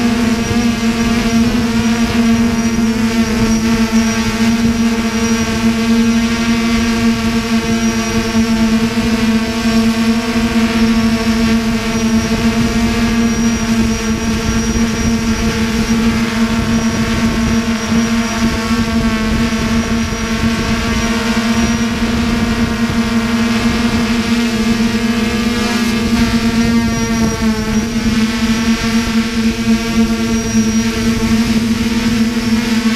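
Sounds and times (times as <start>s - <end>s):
drone propellers buzzing whine: 0.0s - 32.9s.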